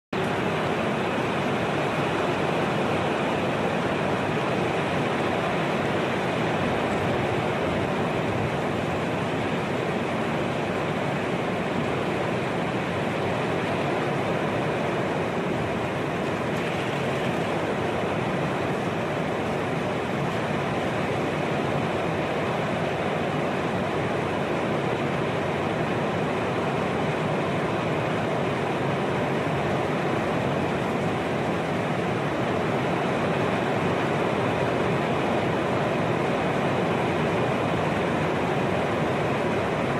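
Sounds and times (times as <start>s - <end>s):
heavy rain in wind: 0.2s - 39.9s.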